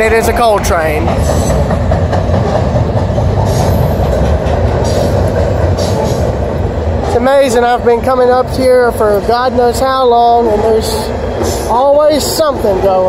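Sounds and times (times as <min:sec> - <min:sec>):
train wheels rumbling on bridge: 0:00.0 - 0:13.0.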